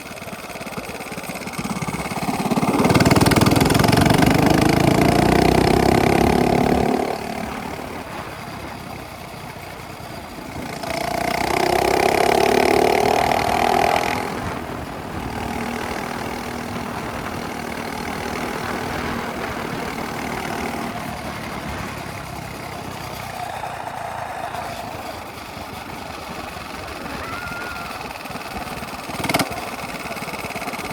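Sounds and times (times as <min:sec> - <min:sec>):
minibike engine revving: 0:00.0 - 0:30.9.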